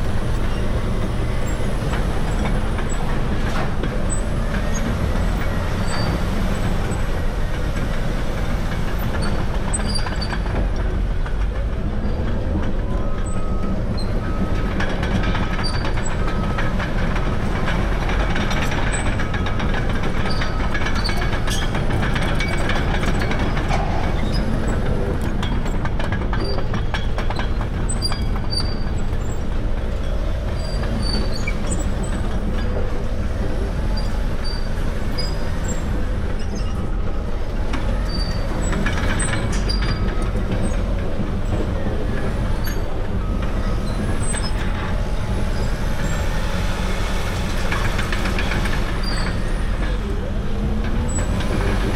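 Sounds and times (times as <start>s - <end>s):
bulldozer diesel engine under load: 0.0s - 51.9s
steel tracks clanking and squealing: 0.0s - 51.9s.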